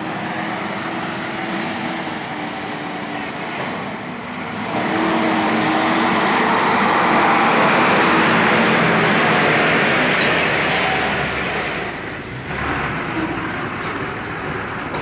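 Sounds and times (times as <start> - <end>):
heavy vehicle passing: 0.0 - 15.0.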